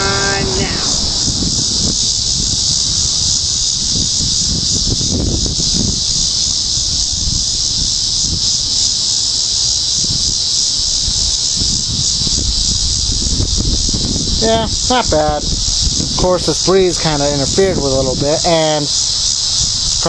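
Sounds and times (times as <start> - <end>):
box fan running with hiss: 0.0 - 20.0
wind rumble on microphone: 0.0 - 20.0.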